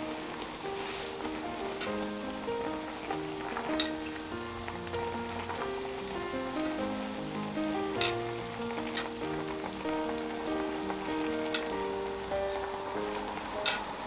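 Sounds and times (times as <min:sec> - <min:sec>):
broth boiling: 0:00.0 - 0:14.0
melody of steady notes: 0:00.0 - 0:14.0.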